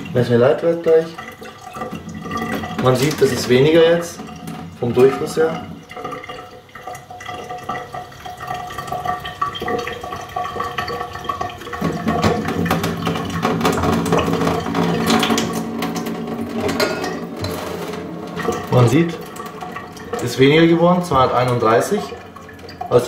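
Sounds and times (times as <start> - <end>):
water running into a glass: 0.0 - 23.0.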